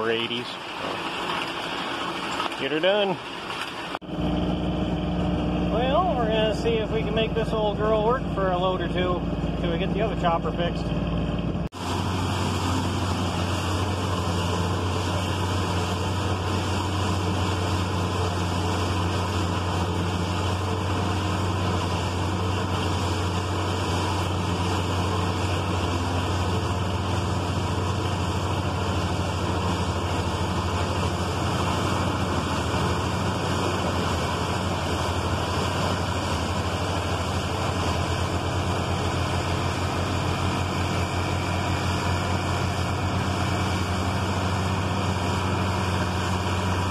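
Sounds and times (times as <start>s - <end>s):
tractor and forage chopper droning: 0.0s - 46.9s.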